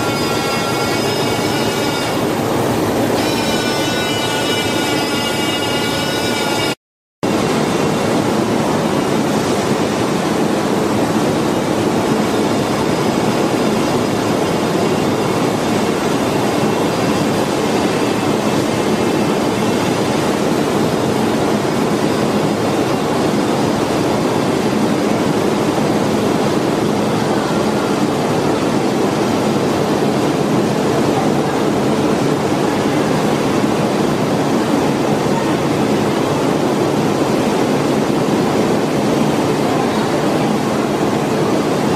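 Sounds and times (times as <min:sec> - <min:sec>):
steady factory rushing noise: 0:00.0 - 0:41.9.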